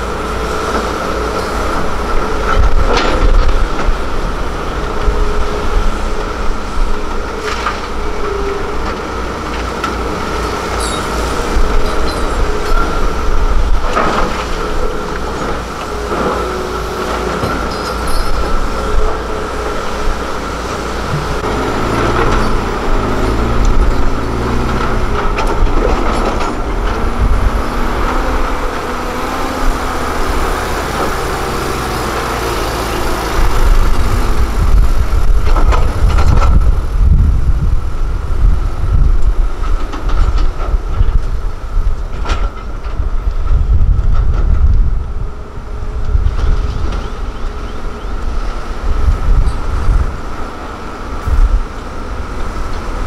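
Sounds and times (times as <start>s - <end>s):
diesel truck engine under load: 0.0s - 53.0s.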